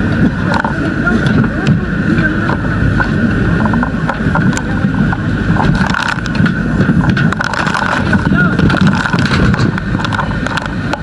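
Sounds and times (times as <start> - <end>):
loud engine-like drone: 0.0 - 11.0
short knocks and clatter: 0.5 - 11.0.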